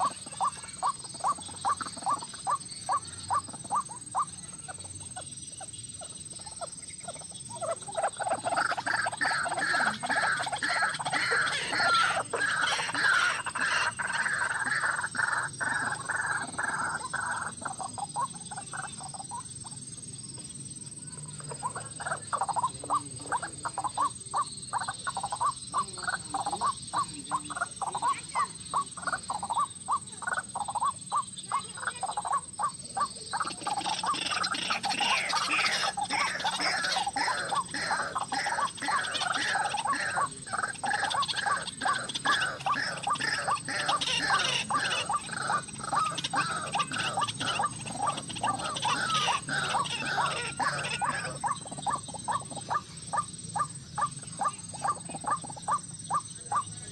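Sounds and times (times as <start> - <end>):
waterhen calling: 0.0 - 4.8, 6.0 - 19.8, 21.3 - 56.9.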